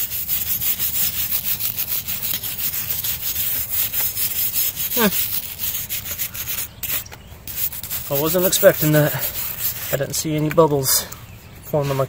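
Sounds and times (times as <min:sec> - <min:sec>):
wire brush scrubbing iron: 0:00.0 - 0:10.2.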